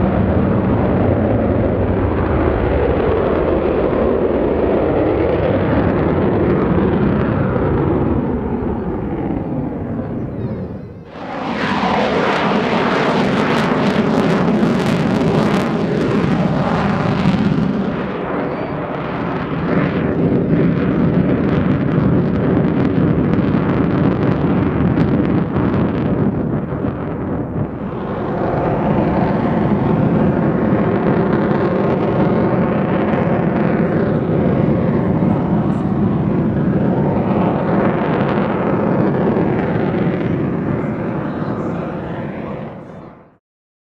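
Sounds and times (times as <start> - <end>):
jet bomber crackling rumble: 0.0 - 43.4.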